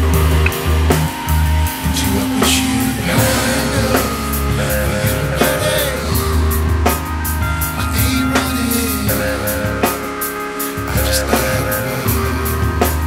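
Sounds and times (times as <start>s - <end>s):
deep bass notes: 0.0s - 13.0s
drum kit beat: 0.0s - 13.0s
guitar: 0.0s - 13.0s.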